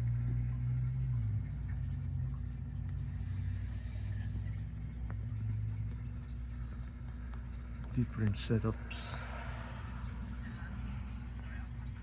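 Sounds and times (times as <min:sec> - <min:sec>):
low motor rumble: 0:00.0 - 0:12.0.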